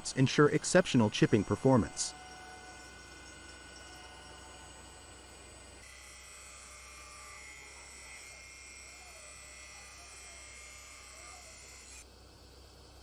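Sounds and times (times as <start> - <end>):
machine tool whine and hum: 0.0 - 13.0.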